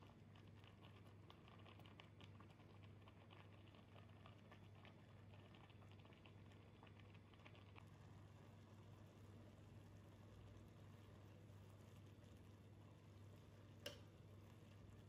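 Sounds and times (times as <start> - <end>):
water boiling with popping: 0.0 - 15.0.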